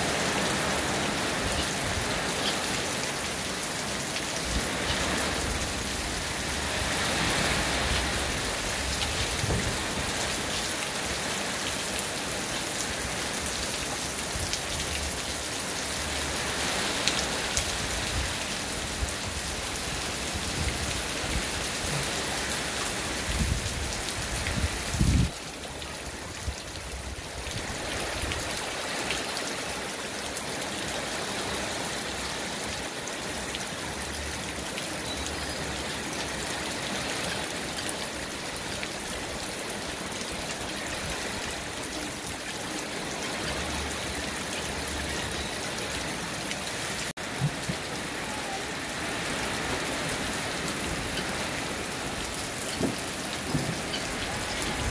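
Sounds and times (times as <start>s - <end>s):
rain pattering on leaves: 0.0s - 54.9s.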